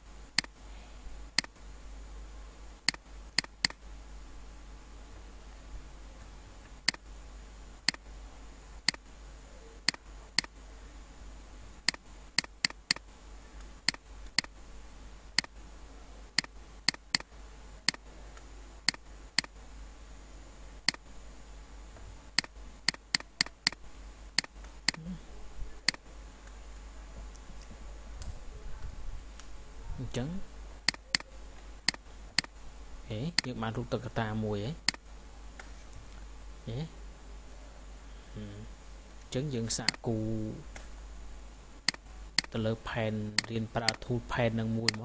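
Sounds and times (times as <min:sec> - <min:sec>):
faint low hum: 0:00.0 - 0:45.0.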